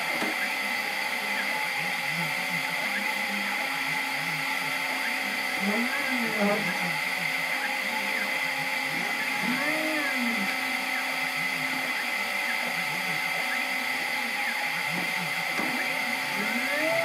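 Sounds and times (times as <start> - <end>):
steady high whine: 0.0 - 17.0
stepper motors whining: 0.0 - 17.0.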